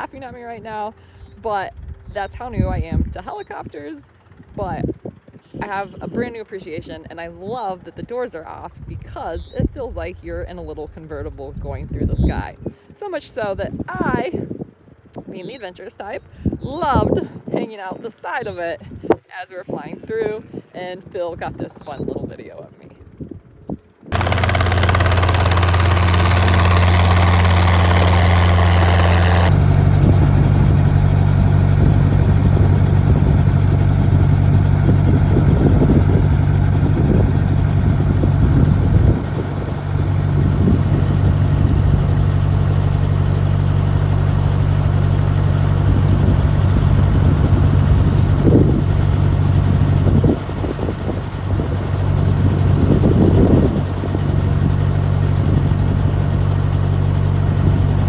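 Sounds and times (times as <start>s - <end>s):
helicopter rotor and engine drone: 0.0s - 19.1s, 19.7s - 58.0s.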